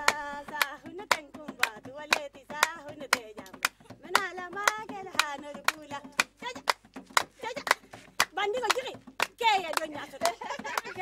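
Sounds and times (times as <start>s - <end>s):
woman singing: 0.0s - 11.0s
women clapping in steady beat: 0.0s - 11.0s.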